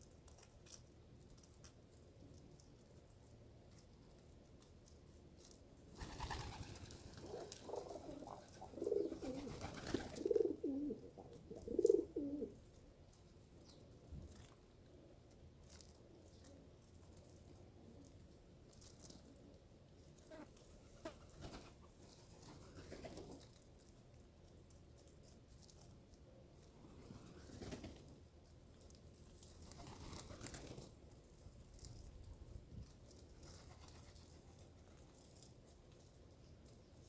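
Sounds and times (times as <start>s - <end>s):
birds pecking and scuffling: 0.0s - 37.0s.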